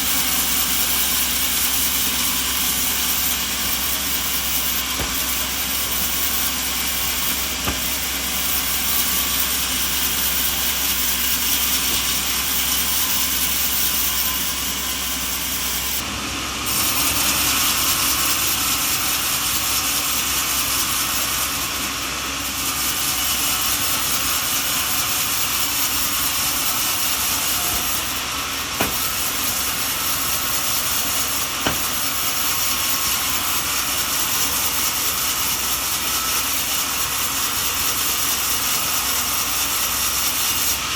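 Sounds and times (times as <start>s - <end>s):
saw cutting through a log: 0.0s - 40.9s.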